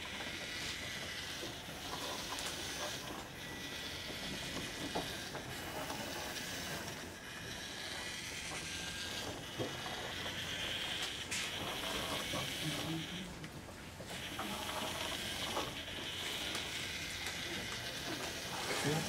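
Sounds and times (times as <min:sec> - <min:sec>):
small motors whirring: 0:00.0 - 0:19.0.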